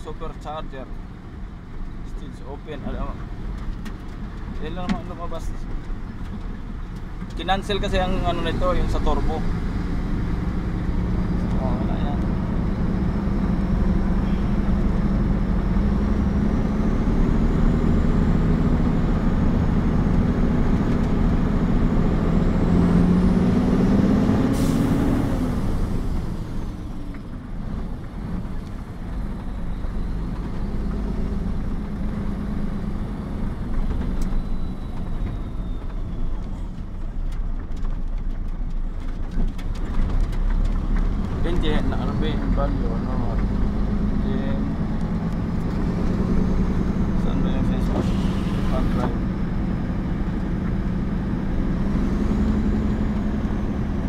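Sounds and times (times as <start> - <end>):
diesel truck engine under load: 0.0 - 54.0
road noise: 0.0 - 54.0.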